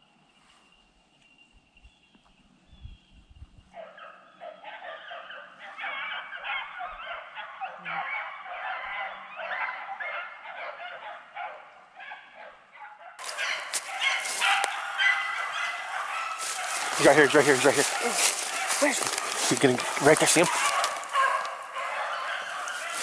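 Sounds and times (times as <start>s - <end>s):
pack of dogs baying: 3.7s - 23.0s.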